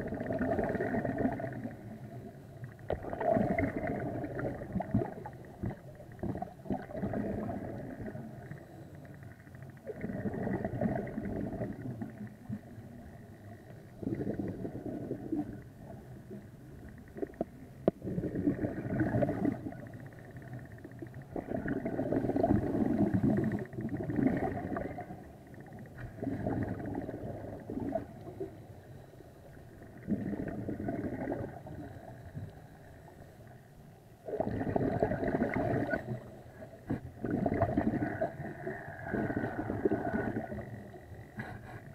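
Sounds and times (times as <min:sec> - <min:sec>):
scuba regulator bubbles gurgling: 0:00.0 - 0:41.9.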